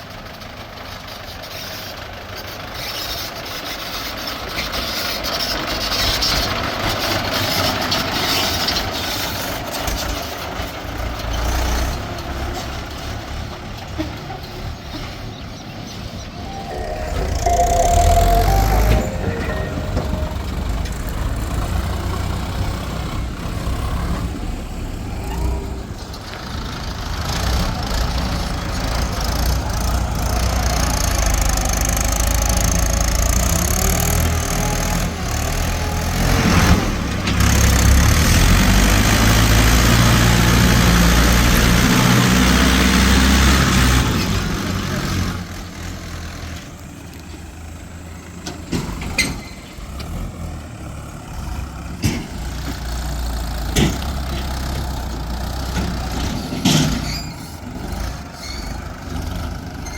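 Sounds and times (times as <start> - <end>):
heavy diesel machinery engines: 0.0 - 59.9.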